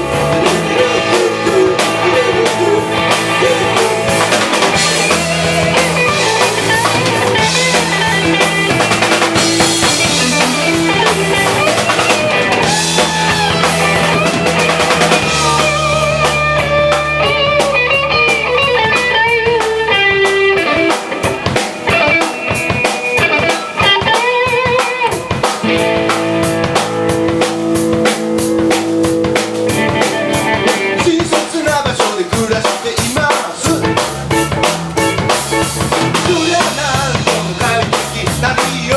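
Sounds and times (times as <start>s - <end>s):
bass guitar: 0.0s - 38.9s
drum kit: 0.0s - 38.9s
guitar: 0.0s - 38.9s
rock band playing live: 0.0s - 38.9s.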